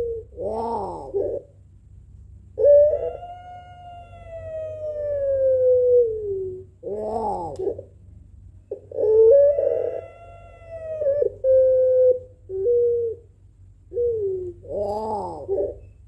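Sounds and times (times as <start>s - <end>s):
dove cooing: 0.0s - 1.6s, 2.6s - 7.9s, 8.7s - 16.0s.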